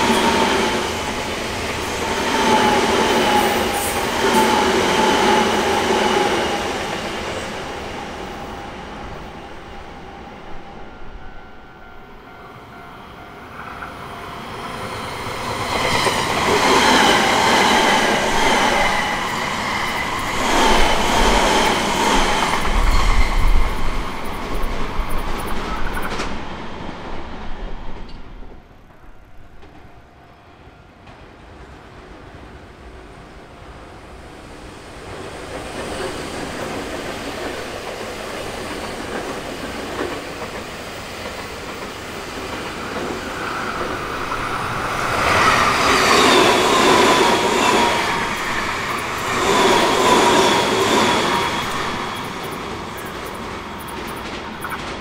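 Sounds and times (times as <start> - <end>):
electric trains passing: 0.0 - 55.0
steady train tones: 0.0 - 55.0.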